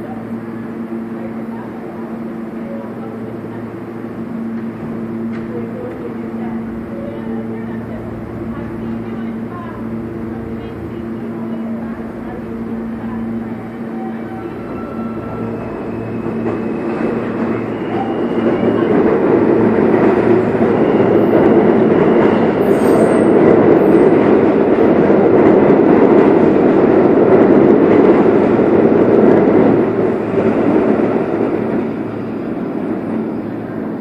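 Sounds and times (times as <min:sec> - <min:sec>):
train traction motors whining: 0:00.0 - 0:34.0
train wheels rumbling: 0:00.0 - 0:34.0.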